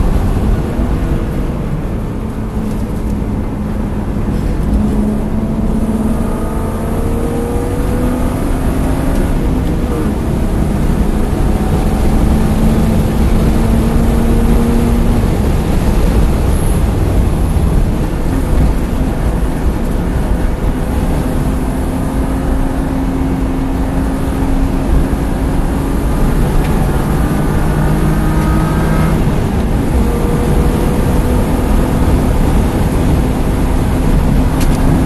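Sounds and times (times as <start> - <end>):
car engine at speed: 0.0 - 35.0
road noise: 0.0 - 35.0
wind noise: 0.0 - 35.0.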